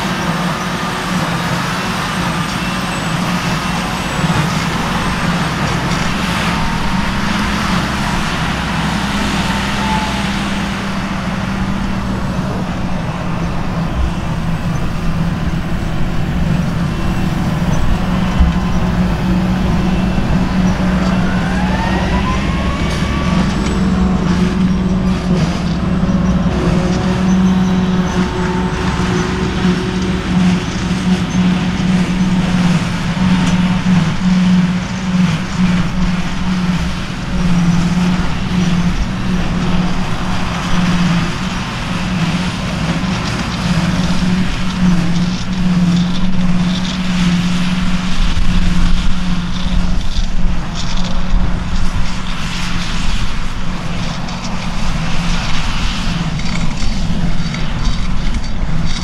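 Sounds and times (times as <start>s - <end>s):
forage harvester droning: 0.0s - 59.0s
tractor running: 0.0s - 59.0s.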